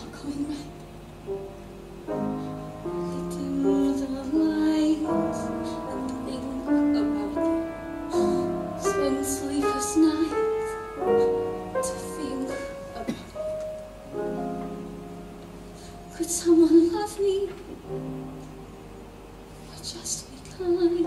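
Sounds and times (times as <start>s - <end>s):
piano accompaniment: 0.0s - 21.0s.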